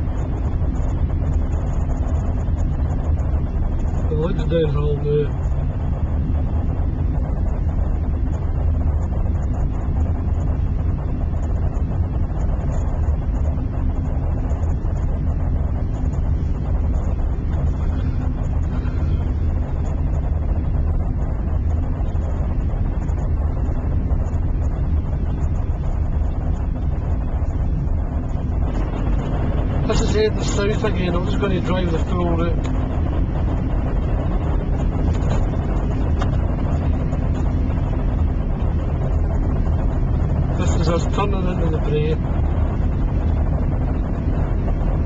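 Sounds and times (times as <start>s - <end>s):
tyres rumbling on road: 0.0s - 45.0s.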